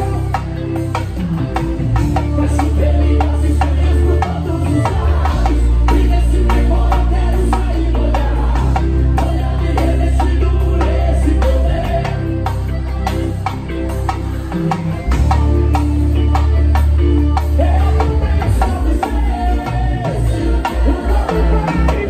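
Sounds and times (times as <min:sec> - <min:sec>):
bass line: 0:00.0 - 0:22.0
drum beats: 0:00.0 - 0:22.0
electric guitar: 0:00.0 - 0:22.0
live band playing: 0:00.0 - 0:22.0.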